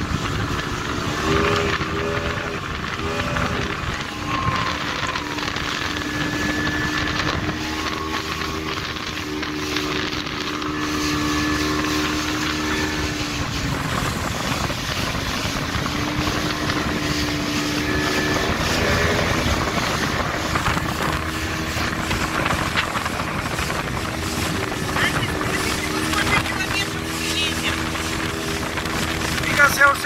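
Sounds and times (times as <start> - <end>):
speedboat engine humming: 0.0 - 30.0
water rushing and spraying: 0.0 - 30.0.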